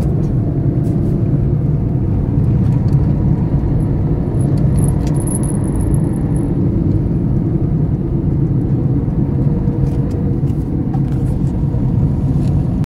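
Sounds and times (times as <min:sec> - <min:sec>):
car tyres and engine rumble: 0:00.0 - 0:12.9.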